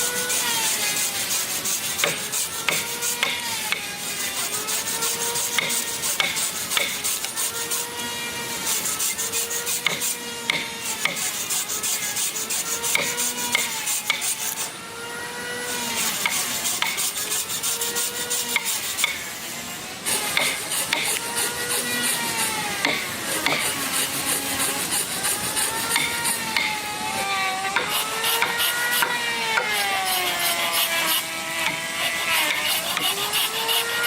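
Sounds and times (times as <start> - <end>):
hand tool rasping on wood: 0.0 - 14.8, 15.7 - 19.3, 20.0 - 26.8, 27.6 - 34.0.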